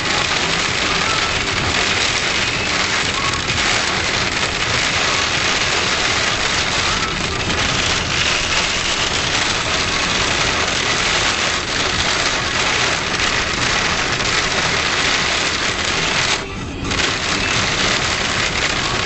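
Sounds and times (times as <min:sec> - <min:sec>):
hail pattering on a surface: 0:00.0 - 0:19.0.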